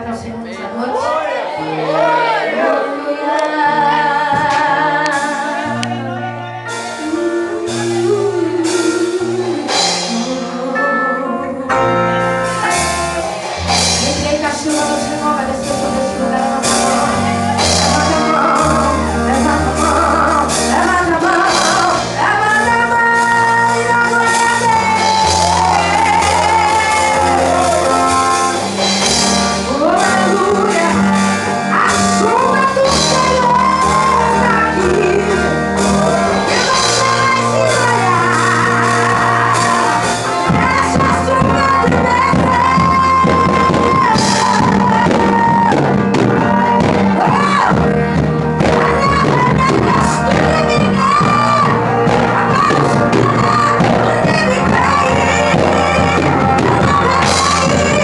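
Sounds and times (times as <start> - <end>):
bass guitar: 0.0 - 58.0
electric guitar: 0.0 - 58.0
gospel band playing: 0.0 - 58.0
person singing: 0.0 - 58.0.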